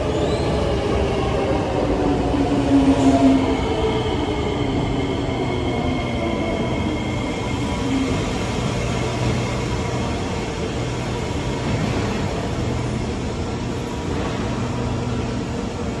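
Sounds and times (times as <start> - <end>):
train rumble and rail noise: 0.0 - 16.0.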